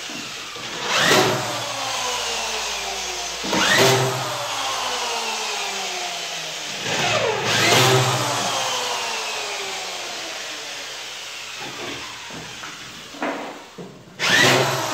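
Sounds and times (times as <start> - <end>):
power tool motor whine: 0.0 - 13.1, 14.2 - 14.9.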